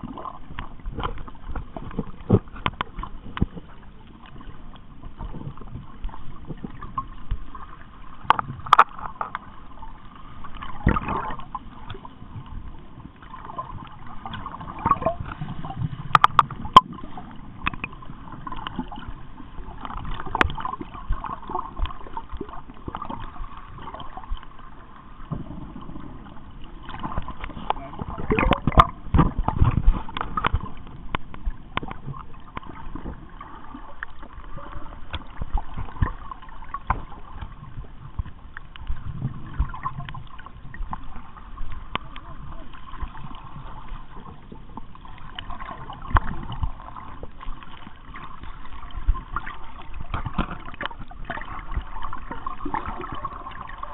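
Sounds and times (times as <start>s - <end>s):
water sloshing and gurgling: 0.0s - 53.9s.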